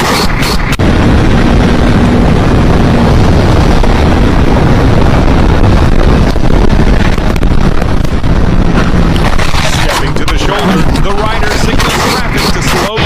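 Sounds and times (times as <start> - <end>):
motorcycle running at speed: 0.0 - 13.0
wind rush on microphone: 0.0 - 13.0.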